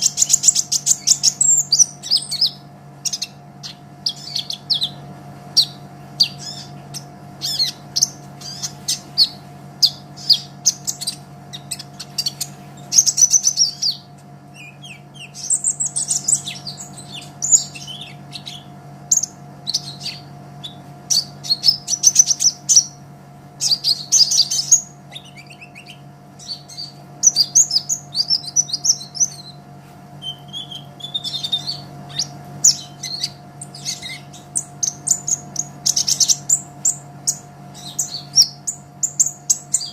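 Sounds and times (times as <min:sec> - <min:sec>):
faint steady hum: 0:00.0 - 0:39.9
sunbird singing chirps and trills: 0:00.0 - 0:39.9.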